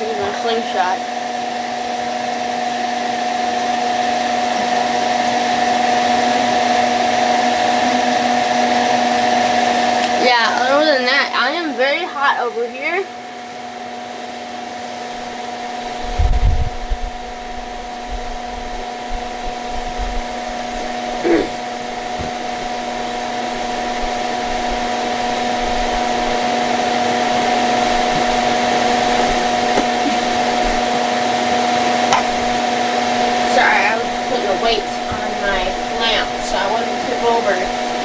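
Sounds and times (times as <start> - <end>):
motor hum: 0.0 - 38.0
space heater fan blowing: 0.0 - 38.0.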